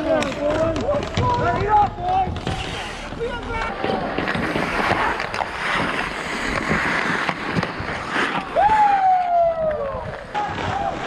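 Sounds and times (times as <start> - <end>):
hockey sticks and puck clicking: 0.0 - 11.0
skates scraping ice: 0.0 - 11.0.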